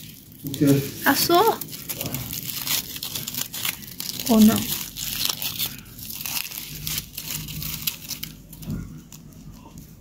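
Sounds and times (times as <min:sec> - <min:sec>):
dry crinkling and crunching: 0:00.0 - 0:10.0.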